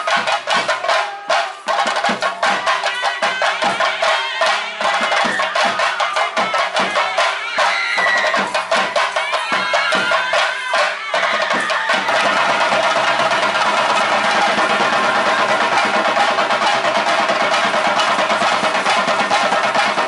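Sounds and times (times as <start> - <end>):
drums beaten with sticks: 0.0 - 20.0.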